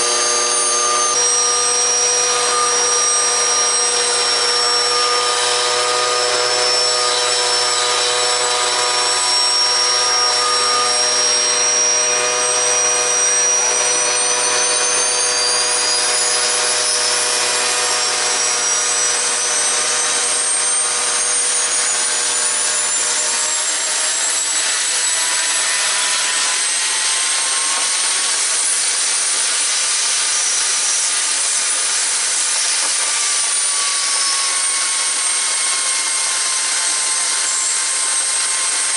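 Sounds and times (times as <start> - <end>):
turbocharger whistling whine: 0.0 - 38.9.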